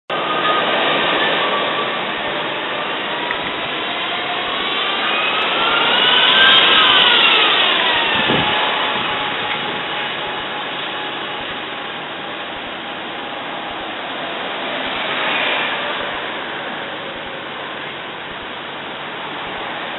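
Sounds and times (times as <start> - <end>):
lorry engine whine: 0.1 - 19.9
road traffic noise: 0.1 - 19.9.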